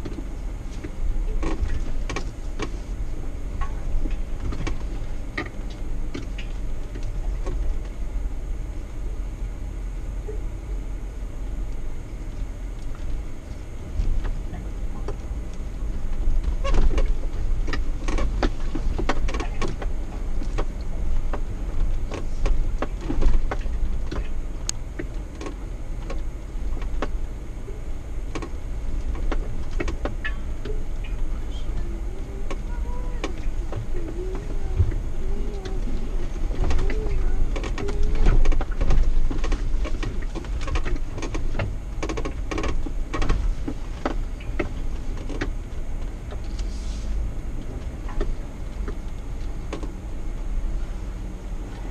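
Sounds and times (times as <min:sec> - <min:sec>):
engine rumble: 0:00.0 - 0:51.9.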